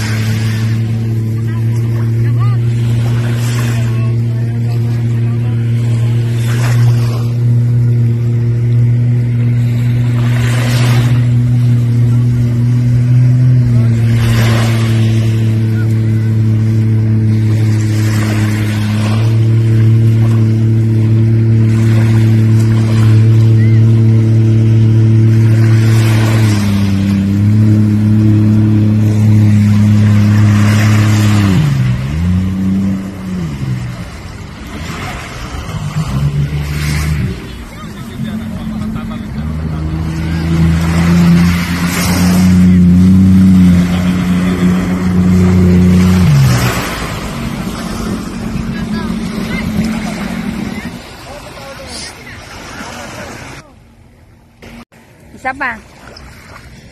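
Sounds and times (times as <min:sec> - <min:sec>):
watercraft engine running: 0:00.0 - 0:56.9.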